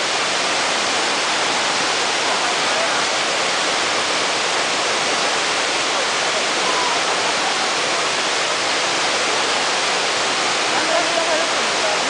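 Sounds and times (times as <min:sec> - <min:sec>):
small waterfall over rocks: 0:00.0 - 0:12.0.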